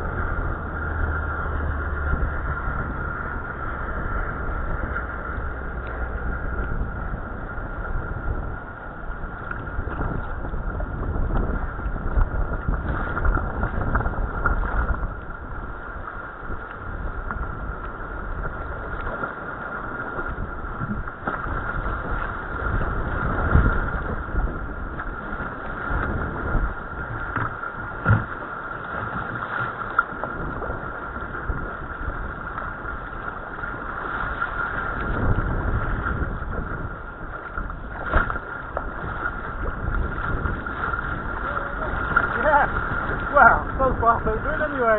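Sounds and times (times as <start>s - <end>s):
water slapping against kayak hull: 0.0s - 44.9s
wind buffeting microphone: 0.0s - 44.9s.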